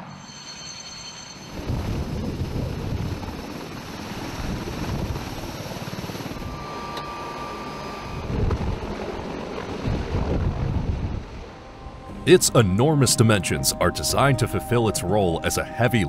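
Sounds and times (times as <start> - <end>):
thin steady whine: 0.0 - 9.6, 11.3 - 16.0
helicopter rotor beating: 0.0 - 16.0
turbine noise: 1.1 - 16.0.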